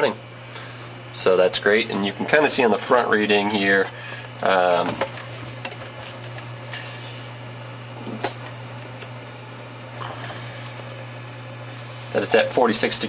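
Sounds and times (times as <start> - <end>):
fridge compressor humming: 0.0 - 13.0.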